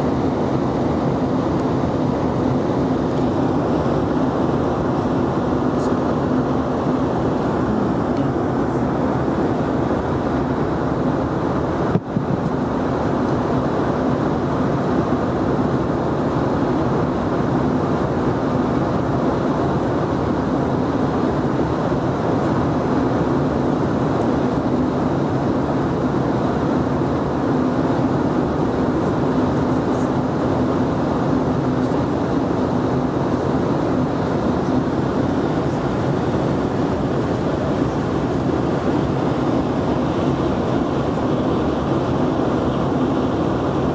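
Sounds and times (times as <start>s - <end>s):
airflow over fuselage: 0.0s - 43.9s
jet engines humming: 0.0s - 43.9s.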